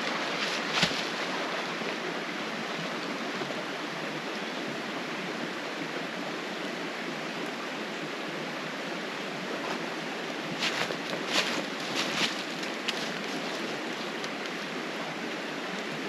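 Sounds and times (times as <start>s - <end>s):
creek flowing: 0.0s - 16.0s.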